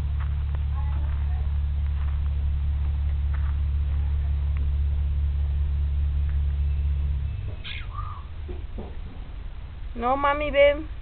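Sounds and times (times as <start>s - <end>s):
motor idling: 0.0s - 11.0s.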